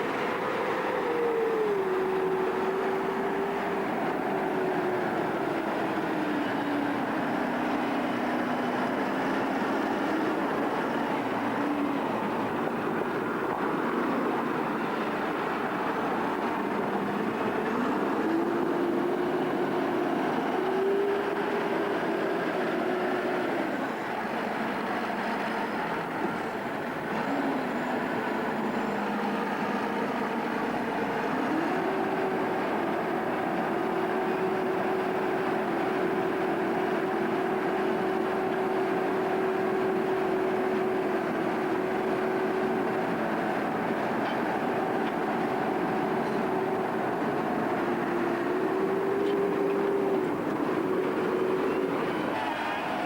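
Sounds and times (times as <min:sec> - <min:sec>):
forage harvester drone: 0:00.0 - 0:53.0.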